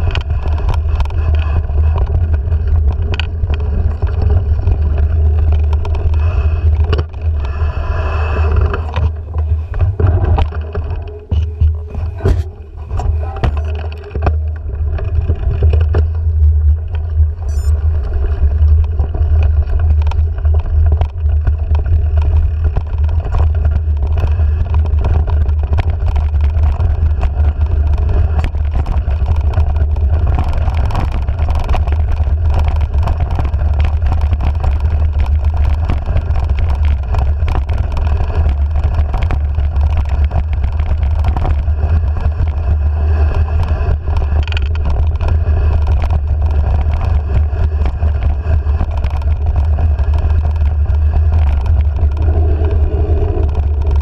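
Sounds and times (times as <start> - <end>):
bike rattles and knocks: 0.0 - 7.7, 8.4 - 54.0
tyre noise on dirt: 0.0 - 54.0
wind buffeting microphone: 0.0 - 54.0.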